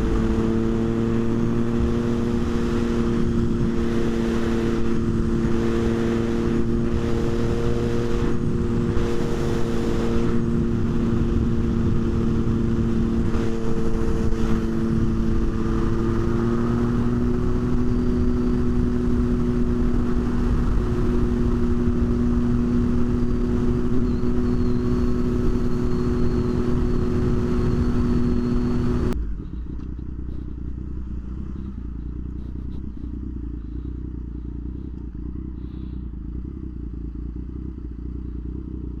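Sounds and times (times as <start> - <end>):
motorcycle engine cruising: 0.0 - 39.0
wind and road noise: 0.0 - 39.0.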